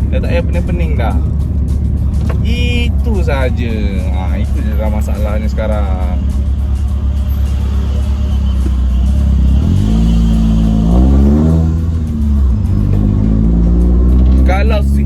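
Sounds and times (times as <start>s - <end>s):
car engine while driving: 0.0s - 15.0s
road noise: 0.0s - 15.0s.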